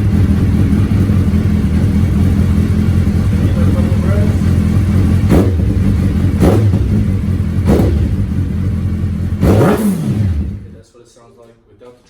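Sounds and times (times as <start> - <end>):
motorcycle engine idling: 0.0 - 10.8
motorcycle throttle blips: 0.0 - 10.8.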